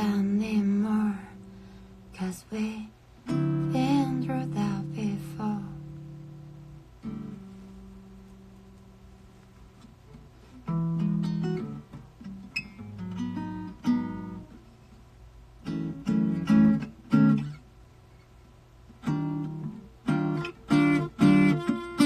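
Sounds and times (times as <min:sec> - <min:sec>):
acoustic guitar strumming chords: 0:00.0 - 0:09.1, 0:09.8 - 0:14.6, 0:15.6 - 0:17.6, 0:19.0 - 0:22.0.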